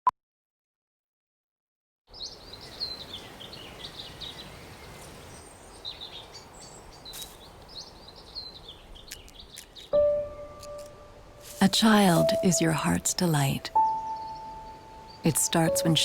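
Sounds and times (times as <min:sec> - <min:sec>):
small birds chirping: 0:02.1 - 0:16.0
outdoor hiss: 0:02.2 - 0:16.0.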